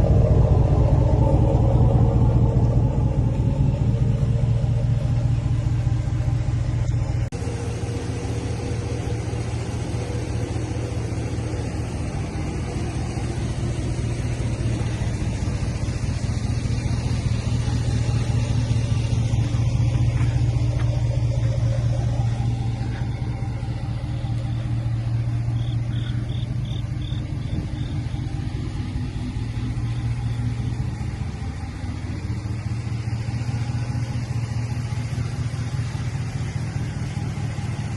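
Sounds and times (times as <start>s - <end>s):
truck engine idling: 0.0s - 37.9s.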